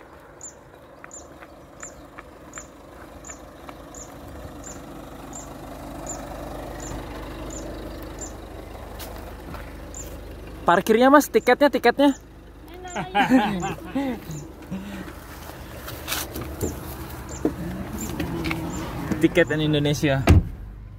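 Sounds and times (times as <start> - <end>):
car engine rumbling: 0.0 - 20.9.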